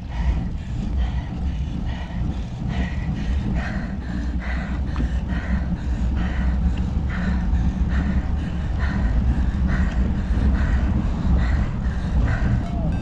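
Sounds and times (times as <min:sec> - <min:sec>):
person breathing hard: 0:00.0 - 0:13.0
wind and road rumble: 0:00.0 - 0:13.0.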